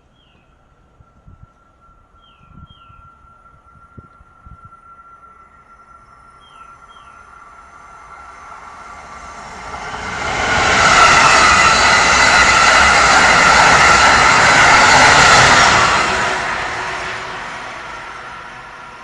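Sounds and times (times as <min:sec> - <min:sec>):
passenger train passing: 0:00.0 - 0:19.0.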